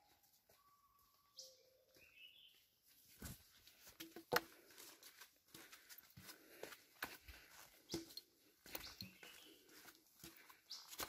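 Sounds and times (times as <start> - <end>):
footsteps on dirt trail: 0.0 - 11.0.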